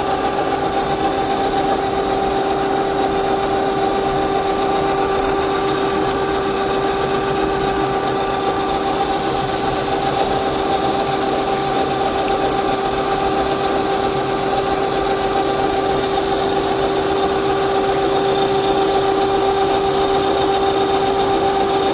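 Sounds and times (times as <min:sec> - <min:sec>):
machine tool whining: 0:00.0 - 0:21.9.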